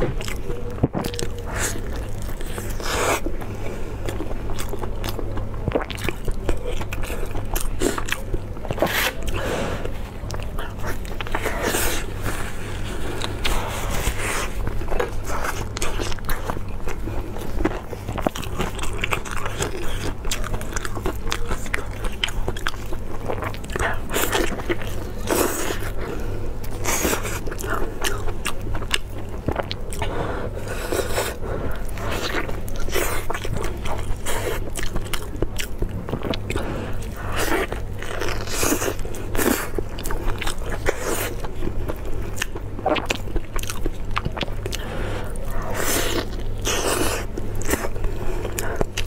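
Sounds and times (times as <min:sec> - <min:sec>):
person chewing meat: 0:00.0 - 0:49.0.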